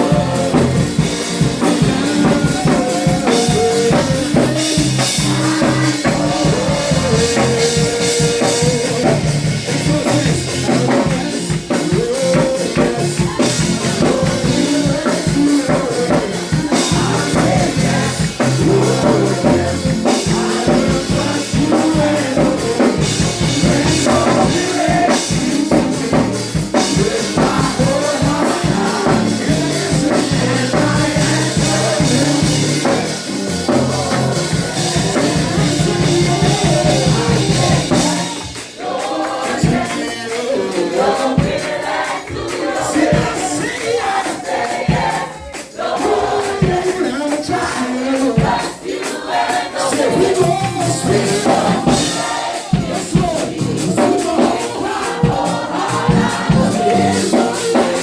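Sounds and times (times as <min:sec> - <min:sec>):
drum kit steady beat: 0:00.0 - 0:58.0
gospel worship music: 0:00.0 - 0:58.0
people singing: 0:00.0 - 0:58.0.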